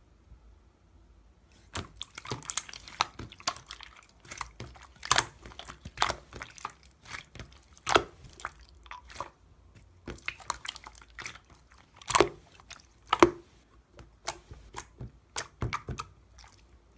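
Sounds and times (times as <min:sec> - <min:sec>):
slime squished by hand: 0:01.5 - 0:16.9.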